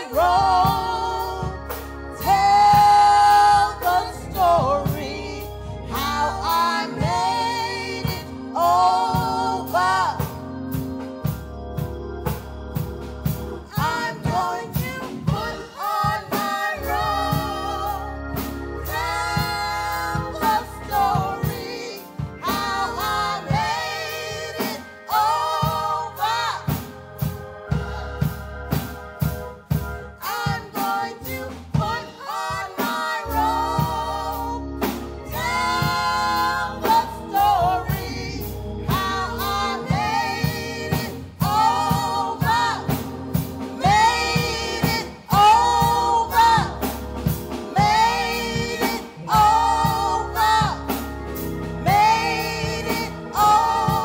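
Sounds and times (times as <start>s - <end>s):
bass guitar: 0.0s - 32.1s, 33.2s - 54.0s
drums: 0.0s - 54.0s
female trio singing gospel: 0.0s - 54.0s.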